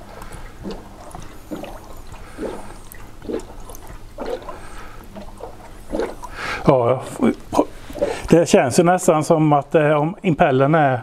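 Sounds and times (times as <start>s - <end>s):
low hum: 0.0s - 9.8s
water gurgling in cooling system: 0.0s - 11.0s.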